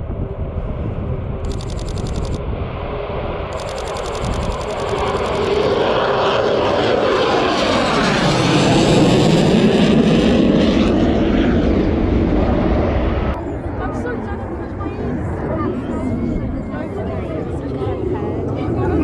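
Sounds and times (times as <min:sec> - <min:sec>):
aircraft flying low overhead: 0:00.0 - 0:19.0.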